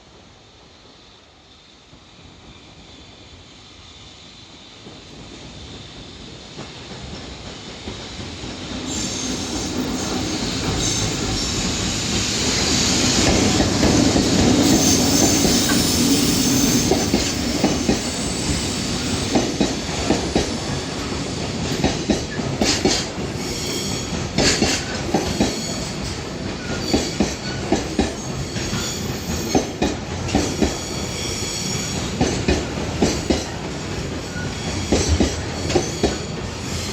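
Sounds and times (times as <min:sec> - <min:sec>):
train rumble passing: 0:04.6 - 0:36.9.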